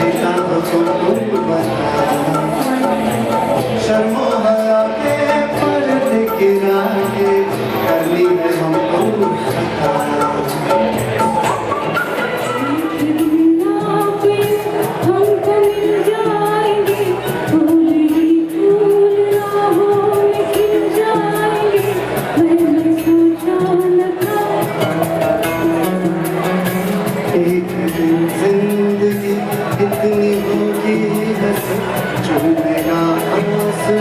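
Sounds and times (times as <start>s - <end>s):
music over pa system: 0.0s - 34.0s
percussion: 0.0s - 34.0s
person singing: 0.0s - 34.0s.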